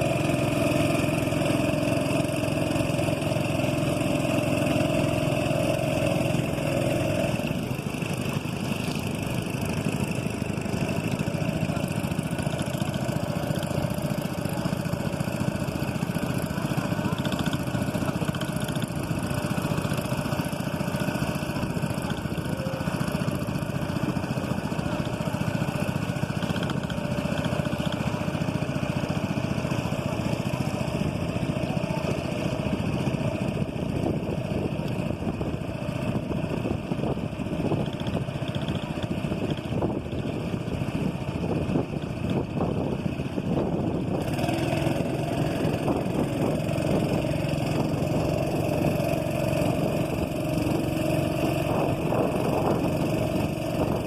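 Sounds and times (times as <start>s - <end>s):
small boat engine droning: 0.0s - 54.0s.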